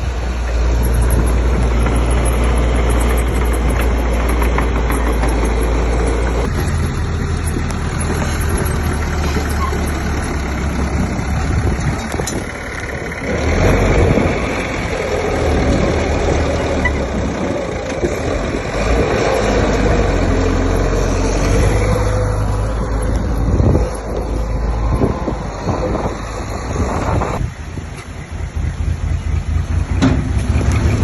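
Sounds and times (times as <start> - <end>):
heavy diesel engine under load: 0.0 - 31.0.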